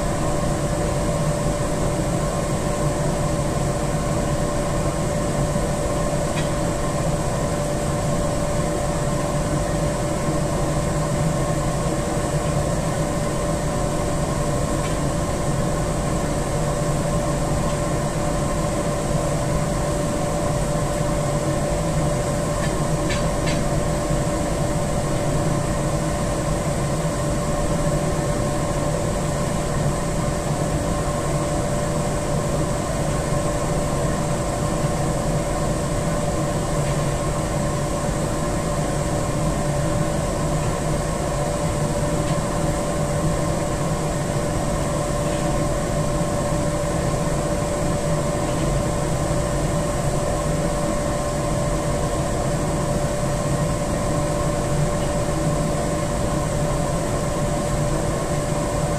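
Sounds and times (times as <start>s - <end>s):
machinery hum: 0.0s - 58.9s.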